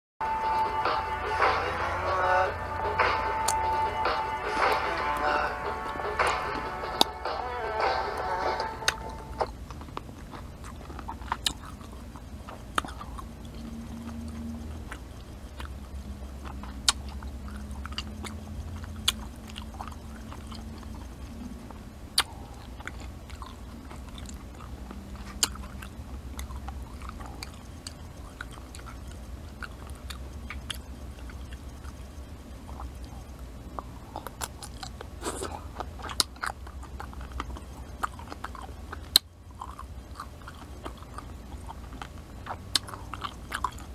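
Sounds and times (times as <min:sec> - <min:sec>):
low steady hum: 0:00.2 - 0:43.9
crunchy chewing: 0:03.2 - 0:43.9.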